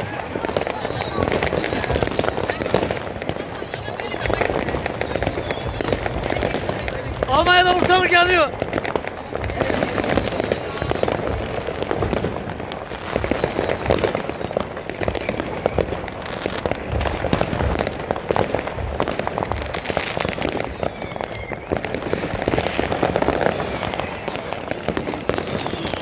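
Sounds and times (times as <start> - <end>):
firecrackers banging and crackling: 0.0 - 26.0.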